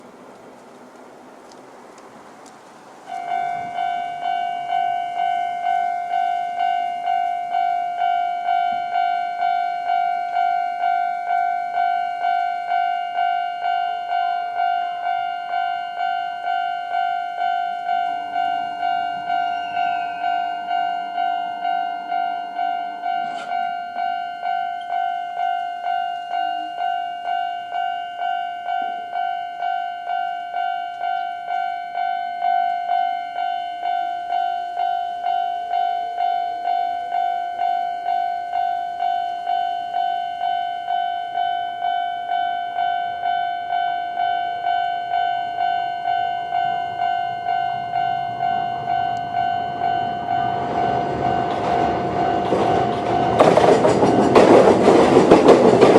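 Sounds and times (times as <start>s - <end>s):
approaching train: 0.0s - 55.9s
level crossing warning bell: 2.8s - 55.9s.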